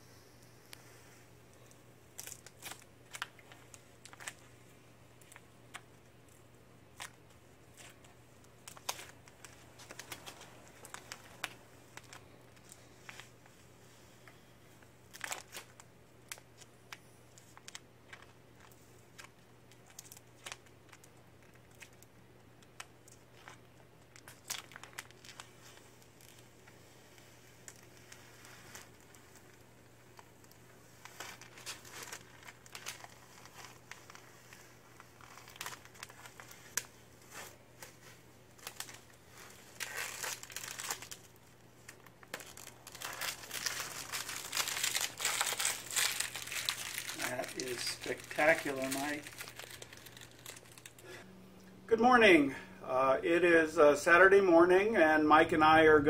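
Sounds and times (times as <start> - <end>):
stencil film crinkling and tearing: 1.5 - 4.5, 5.2 - 51.2.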